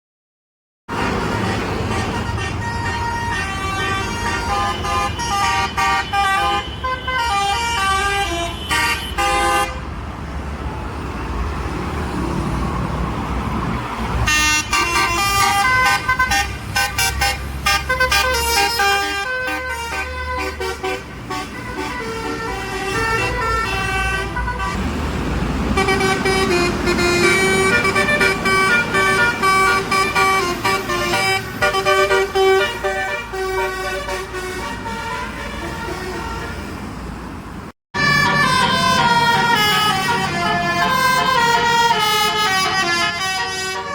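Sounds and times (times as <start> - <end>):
musical bus horns playing tunes: 0.9 - 9.9, 14.2 - 25.0, 25.6 - 36.9, 38.0 - 43.9
bus engines rumbling: 0.9 - 43.9.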